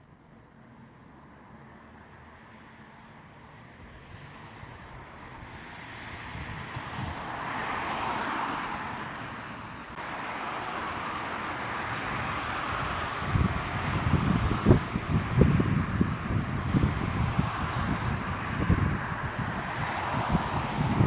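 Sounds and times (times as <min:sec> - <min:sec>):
motor vehicle passing: 0:01.2 - 0:21.0.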